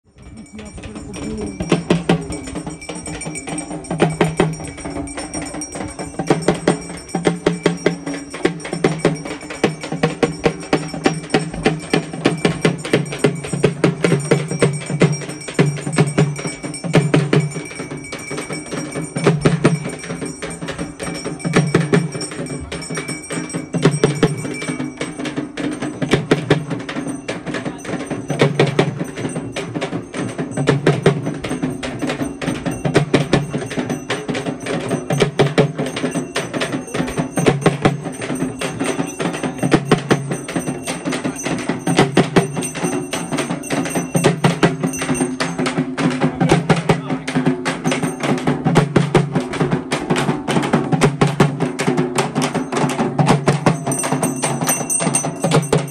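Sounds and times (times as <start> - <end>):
music with clicking percussion: 0.0 - 55.9.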